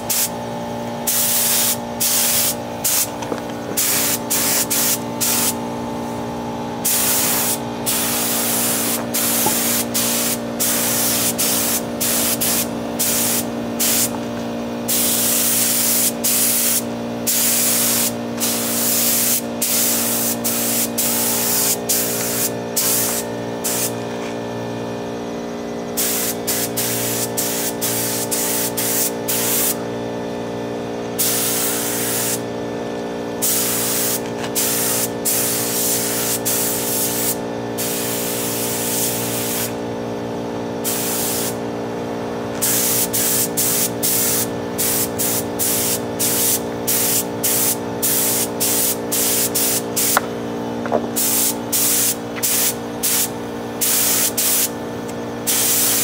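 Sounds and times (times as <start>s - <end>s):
air spray gun hissing: 0.0s - 0.4s, 1.0s - 6.2s, 6.8s - 24.3s, 25.9s - 29.8s, 31.2s - 32.5s, 33.4s - 39.8s, 40.8s - 41.6s, 42.6s - 50.4s, 51.0s - 54.8s, 55.4s - 56.0s
steady mechanical hum: 0.0s - 56.0s.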